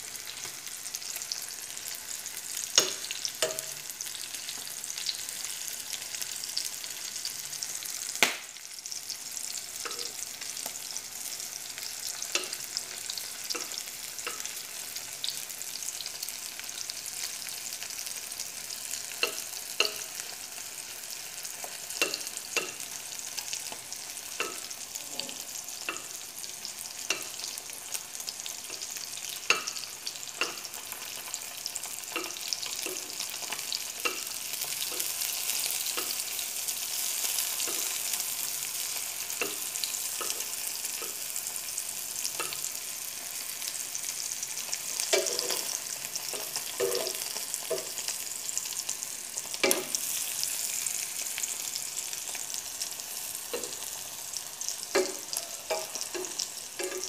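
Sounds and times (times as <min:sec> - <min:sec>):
hot dogs sizzling in oil: 0:00.0 - 0:57.0.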